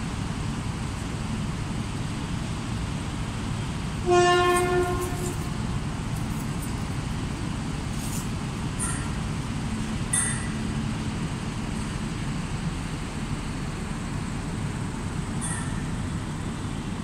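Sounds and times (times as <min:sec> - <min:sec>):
train engine low rumble: 0:00.0 - 0:17.0.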